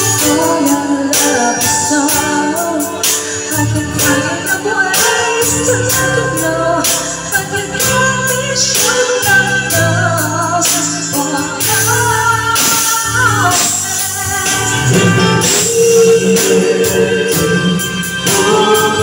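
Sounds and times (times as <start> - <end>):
backing track with bass and drums: 0.0 - 19.0
men singing karaoke: 0.0 - 19.0.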